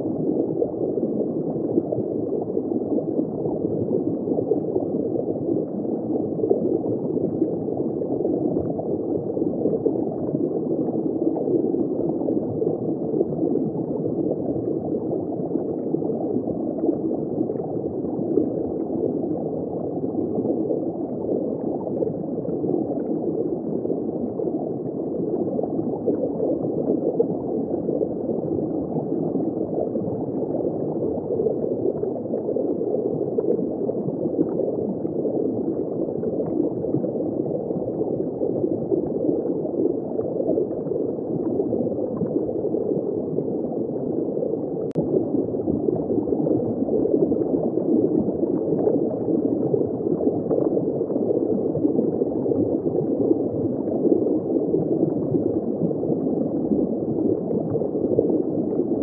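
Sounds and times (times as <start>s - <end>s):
aquarium water gurgling: 0.0s - 59.0s.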